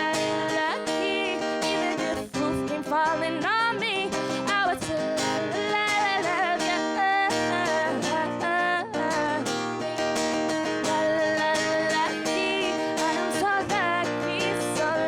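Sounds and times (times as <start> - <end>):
acoustic guitar strumming: 0.0 - 15.0
woman singing with vibrato: 0.0 - 15.0.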